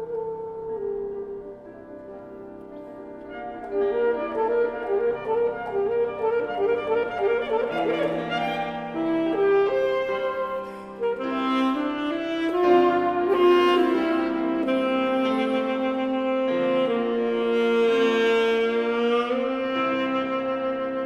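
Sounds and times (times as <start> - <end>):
alto saxophone: 0.0 - 21.0
piano: 0.0 - 21.0.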